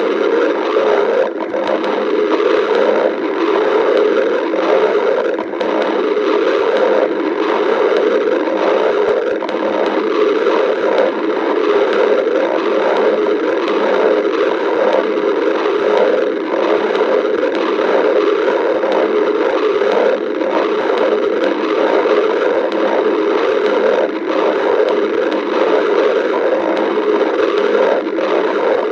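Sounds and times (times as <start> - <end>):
stomach growling and gurgling: 0.0 - 28.9.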